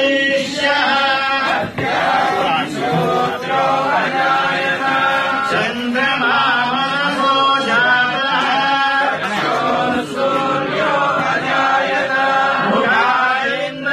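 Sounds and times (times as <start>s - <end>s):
group of voices chanting: 0.0s - 13.9s.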